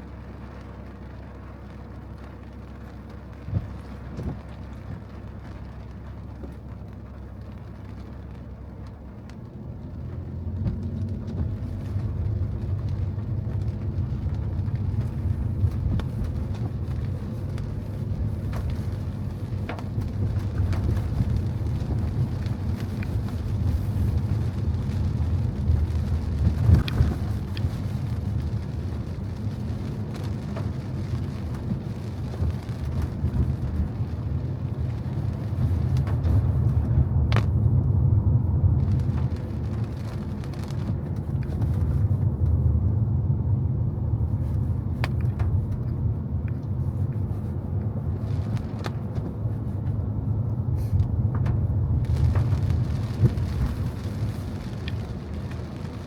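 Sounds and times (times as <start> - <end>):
car engine and road noise: 0.0 - 56.0
rain: 0.0 - 56.0.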